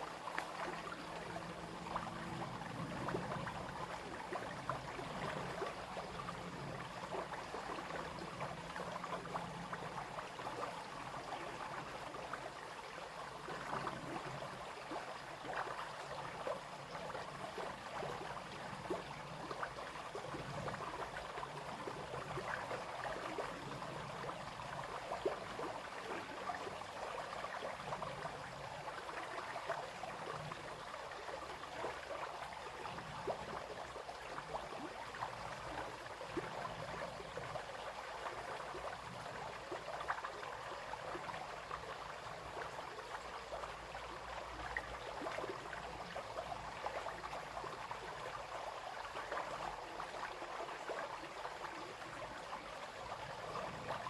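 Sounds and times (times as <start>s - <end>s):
brook trickling over stones: 0.0s - 54.0s.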